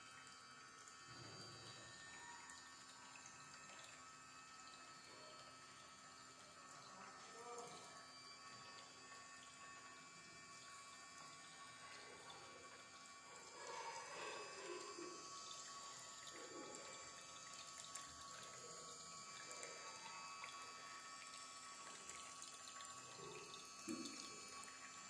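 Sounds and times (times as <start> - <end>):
water fountain trickling: 0.0 - 25.0.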